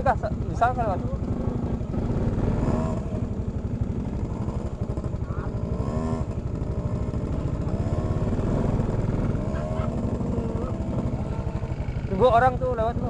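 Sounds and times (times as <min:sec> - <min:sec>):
motor scooter engine: 0:00.0 - 0:13.0.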